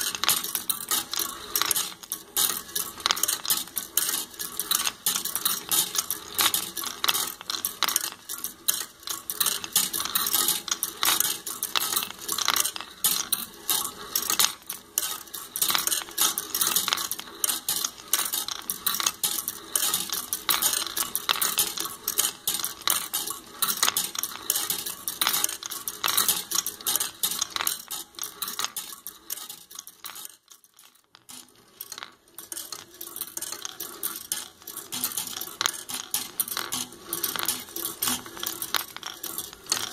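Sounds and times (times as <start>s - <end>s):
metal balls clattering on tracks: 0.0s - 39.9s.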